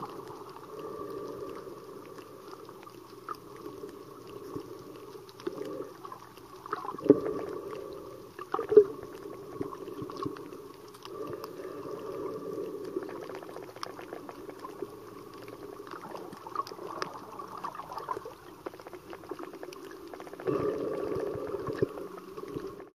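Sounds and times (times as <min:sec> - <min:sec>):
faint crackle: 0:00.0 - 0:22.9
underwater gurgling and sloshing: 0:00.0 - 0:22.9.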